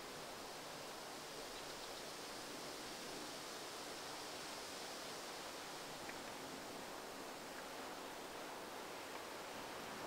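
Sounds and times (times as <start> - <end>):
outdoor ambient hiss: 0.0 - 10.0.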